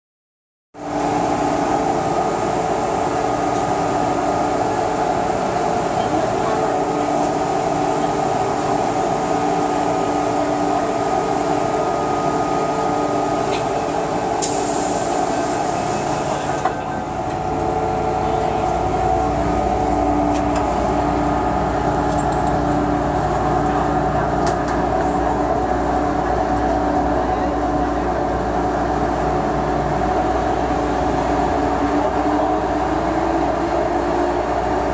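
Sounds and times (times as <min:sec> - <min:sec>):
train equipment hum: 0:00.8 - 0:34.9
train low rumble: 0:00.8 - 0:34.9.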